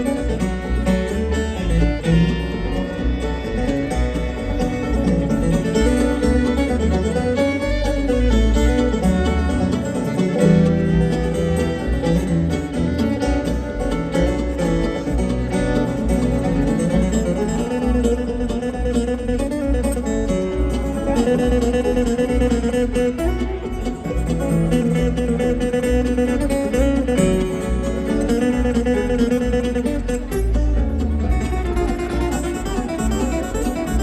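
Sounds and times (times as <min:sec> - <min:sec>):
picked acoustic guitar: 0:00.0 - 0:34.0
strummed rhythm: 0:00.0 - 0:34.0.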